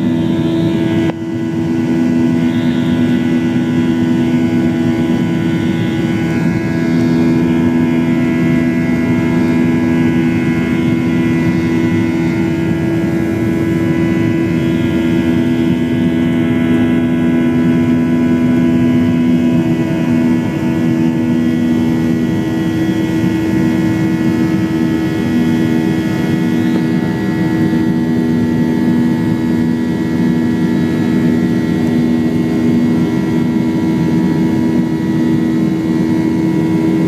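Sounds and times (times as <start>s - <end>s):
high engine whine: 0.0s - 37.0s
jet engines droning: 0.0s - 37.0s.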